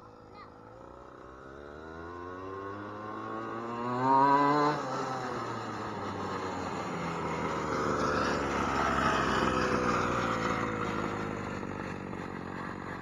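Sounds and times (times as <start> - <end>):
rc truck engine under throttle: 0.1 - 13.0.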